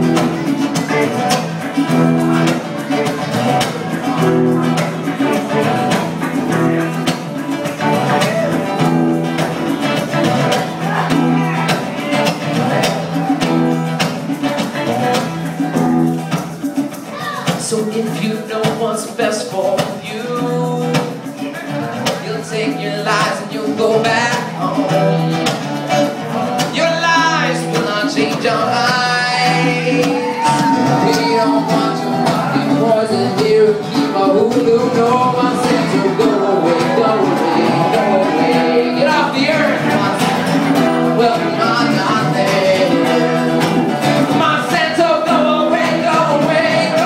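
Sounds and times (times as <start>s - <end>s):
acoustic guitar playing: 0.0s - 47.0s
voices singing: 0.0s - 47.0s.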